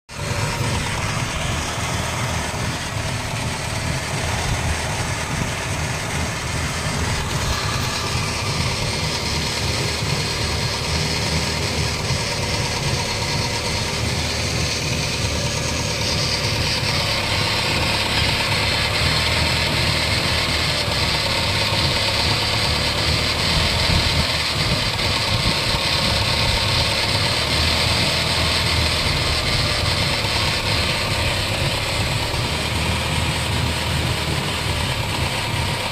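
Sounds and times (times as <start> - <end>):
low wheel bearing drone: 0.1 - 35.9
road noise: 0.1 - 35.9.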